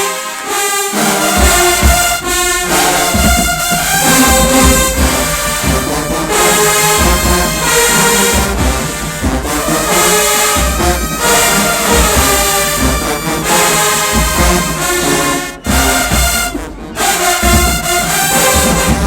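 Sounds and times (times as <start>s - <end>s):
marching band brass playing: 0.0s - 19.0s
bass drum hits: 1.3s - 15.0s, 17.4s - 19.0s.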